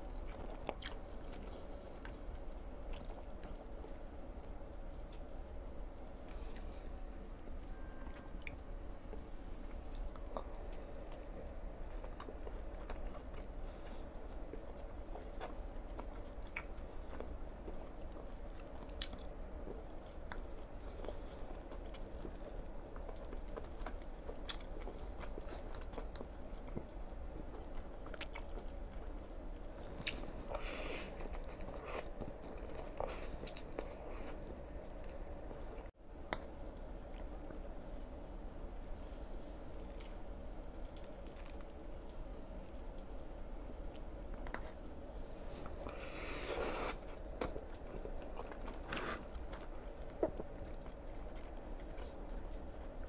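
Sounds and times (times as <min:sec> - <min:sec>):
low steady hum: 0:00.0 - 0:53.0
person chewing food: 0:00.1 - 0:37.7, 0:43.8 - 0:53.0.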